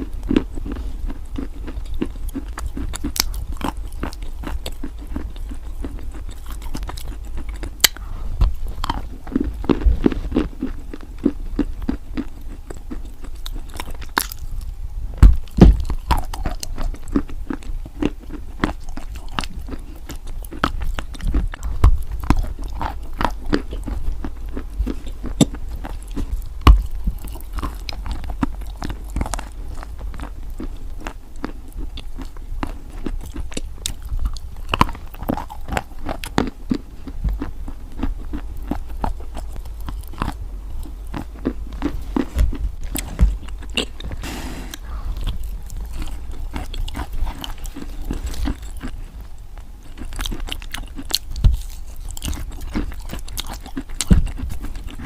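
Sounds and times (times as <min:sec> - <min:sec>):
chalk crunching being chewed: 0:00.0 - 0:55.0.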